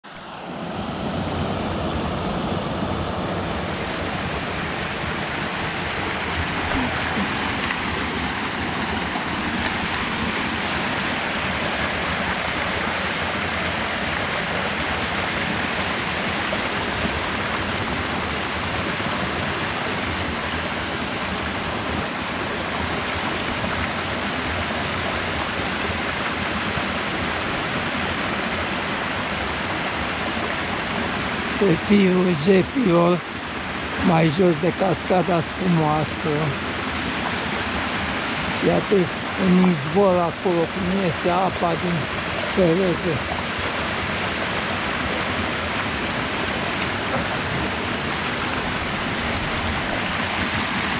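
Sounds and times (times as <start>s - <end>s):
stream rushing over boulders: 0.0s - 50.9s.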